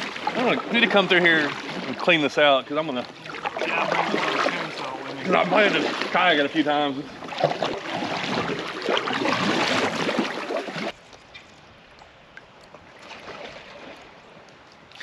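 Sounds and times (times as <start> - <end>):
water rushing around kayak: 0.0 - 11.0, 12.8 - 15.0.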